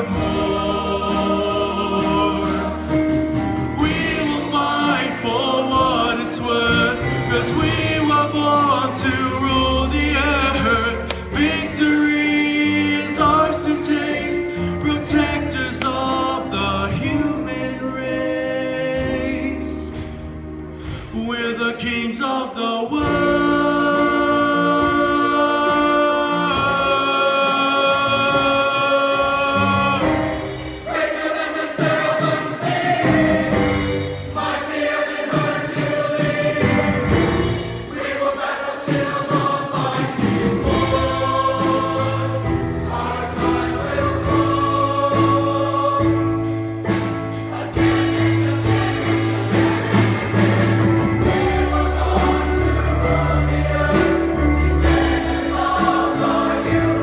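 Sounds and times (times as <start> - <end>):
steady drum beat: 0.0 - 17.4, 23.0 - 57.0
band backing track: 0.0 - 57.0
choir singing: 0.0 - 57.0.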